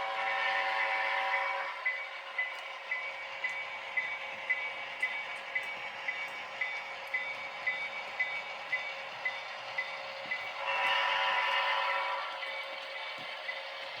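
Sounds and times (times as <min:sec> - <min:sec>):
model train running: 0:00.0 - 0:14.0.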